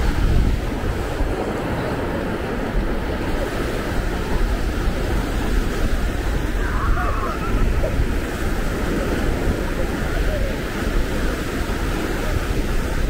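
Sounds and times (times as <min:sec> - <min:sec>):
ocean surf breaking: 0:00.0 - 0:13.0
wind on microphone: 0:00.0 - 0:13.0.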